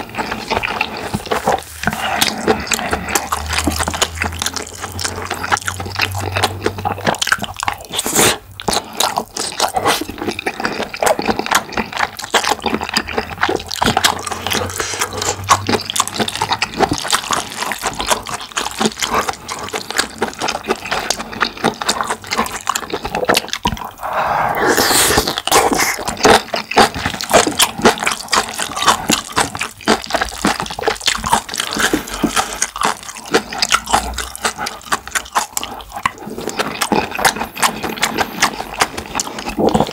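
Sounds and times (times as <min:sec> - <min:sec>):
chewing and slurping noodles: 0:00.0 - 0:39.9.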